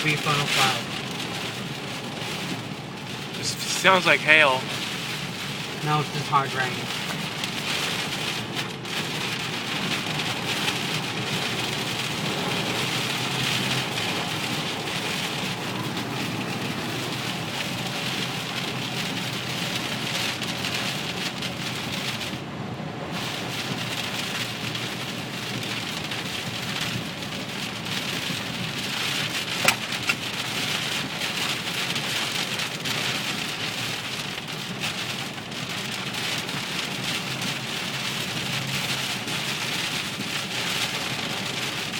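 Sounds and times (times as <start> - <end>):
hard rain pelting on a car: 0.0 - 41.9.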